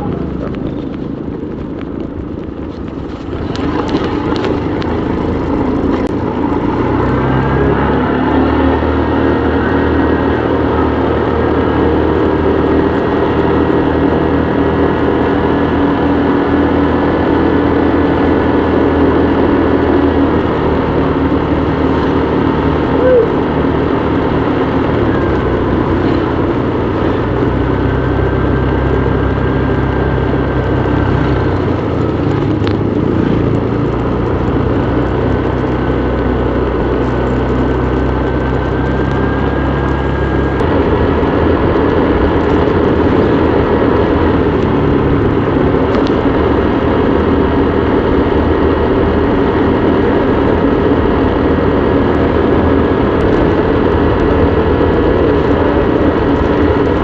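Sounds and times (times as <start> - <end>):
motorbike engine running: 0.0 - 57.0
road and wind noise: 0.0 - 57.0.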